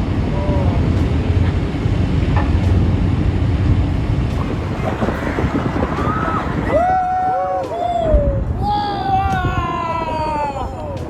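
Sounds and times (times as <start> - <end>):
loud steady rumbling: 0.0 - 11.0
wind buffeting microphone: 0.0 - 11.0.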